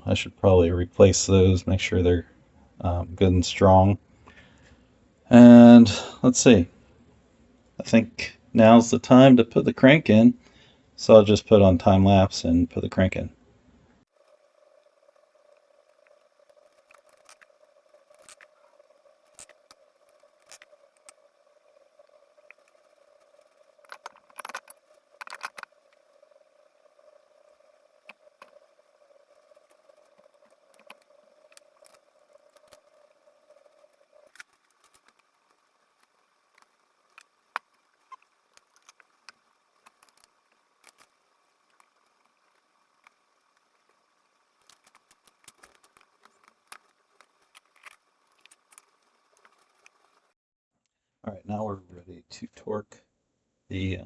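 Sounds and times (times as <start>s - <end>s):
faint steady hum: 0.0s - 50.4s.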